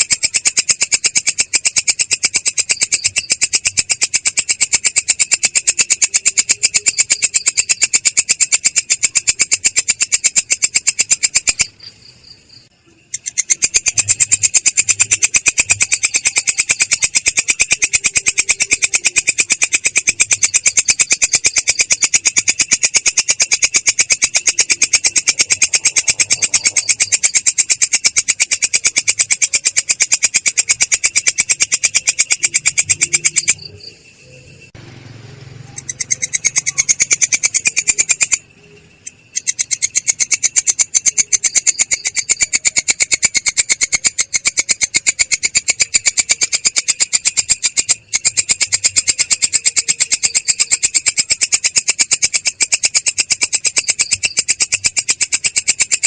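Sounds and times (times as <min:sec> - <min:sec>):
bird fast high chirping: 0:00.0 - 0:56.0.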